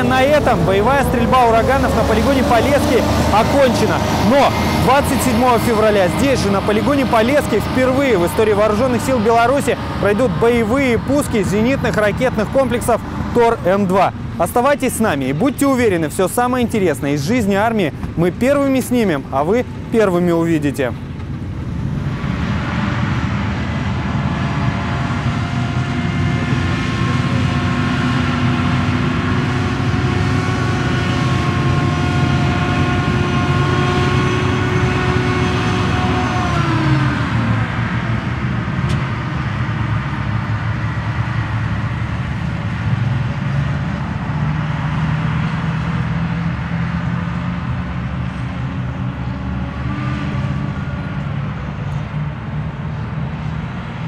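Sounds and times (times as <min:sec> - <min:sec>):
heavy truck engine whining: 0:00.0 - 0:54.0.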